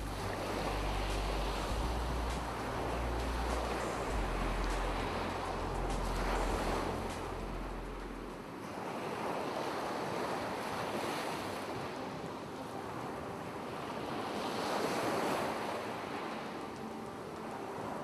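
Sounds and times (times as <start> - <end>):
ocean surf washing onto beach: 0.0 - 18.0.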